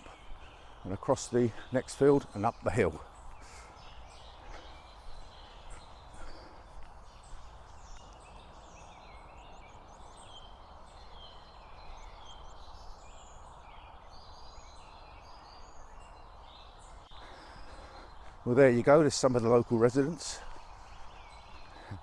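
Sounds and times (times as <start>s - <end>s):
bird calls and chirps: 0.0s - 22.0s.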